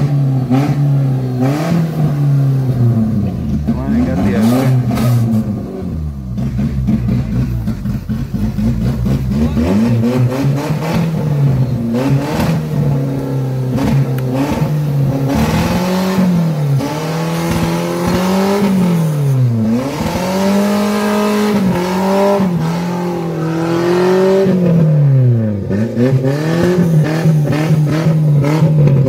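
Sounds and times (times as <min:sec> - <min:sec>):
engine revving hard: 0:00.0 - 0:29.0.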